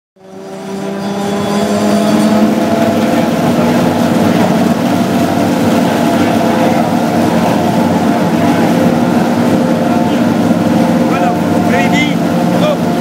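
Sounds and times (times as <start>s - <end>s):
race car engine idling: 1.6s - 13.0s.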